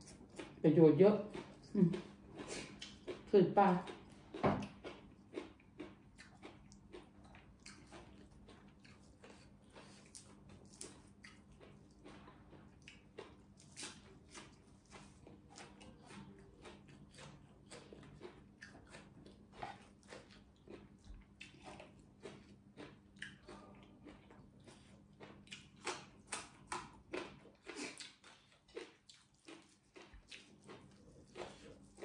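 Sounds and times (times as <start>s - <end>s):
person chewing and crunching: 0.0s - 32.0s.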